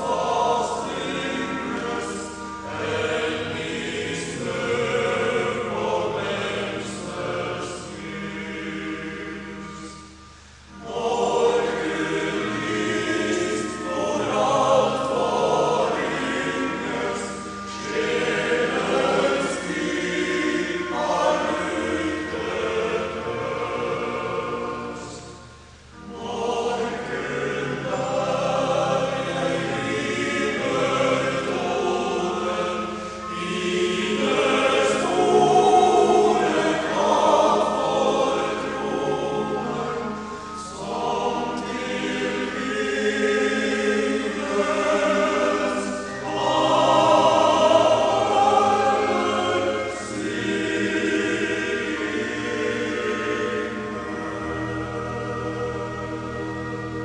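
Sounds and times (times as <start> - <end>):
male voice choir singing: 0.0 - 10.1, 10.7 - 56.8.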